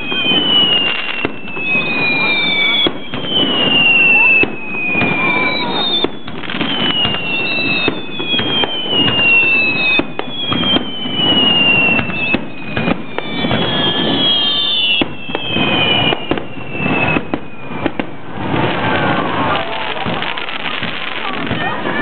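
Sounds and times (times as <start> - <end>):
fireworks bursts and crackles: 0.0 - 22.0
fireworks whistles gliding down: 0.0 - 22.0.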